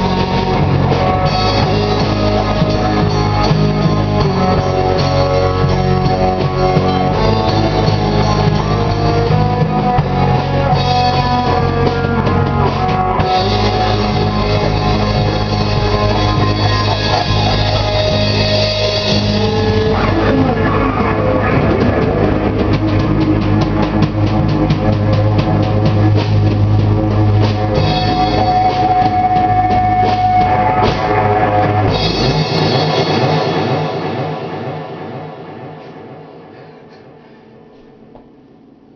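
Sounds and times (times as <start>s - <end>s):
drum kit: 0.0s - 38.4s
electric guitar: 0.0s - 38.4s.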